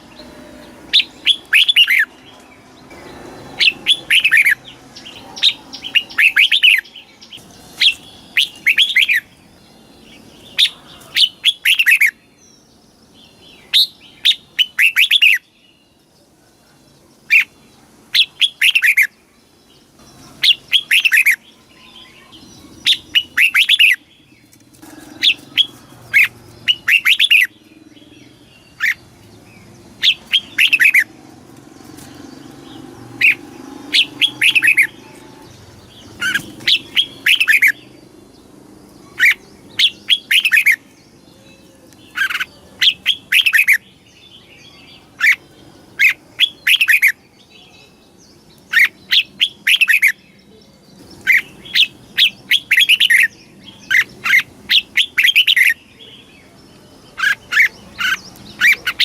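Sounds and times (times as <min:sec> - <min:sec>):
bird singing whistled notes: 0:00.0 - 0:16.0, 0:20.4 - 0:31.2, 0:32.2 - 0:38.1, 0:39.0 - 0:59.0.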